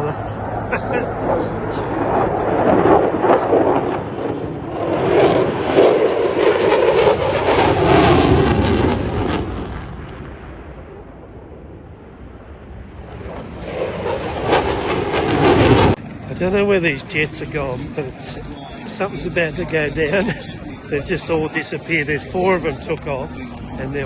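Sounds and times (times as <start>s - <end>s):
jets passing low: 0.0s - 24.0s.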